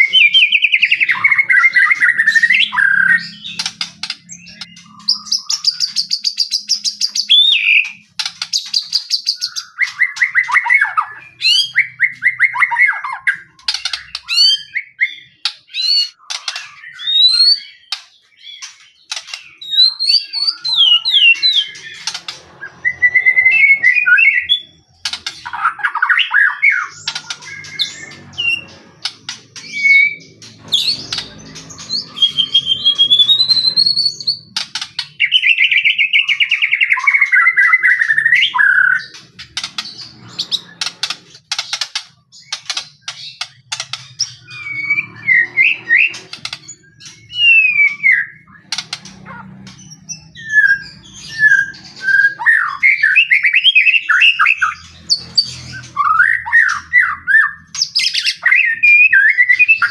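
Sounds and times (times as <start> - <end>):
songbird singing whistles and trills: 0.0 - 28.9, 29.6 - 40.9, 42.3 - 59.9.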